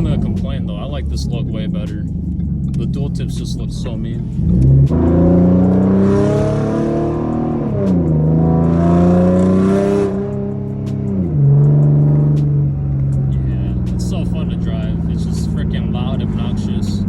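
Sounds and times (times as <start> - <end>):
car exhaust accelerating: 0.0 - 17.0.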